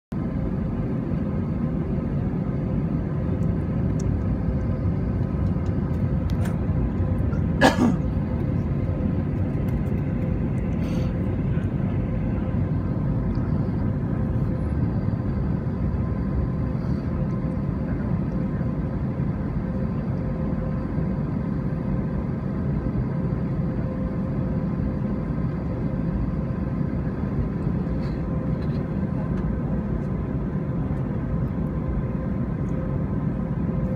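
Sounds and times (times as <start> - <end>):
airliner taxiing rumble: 0.1 - 33.9.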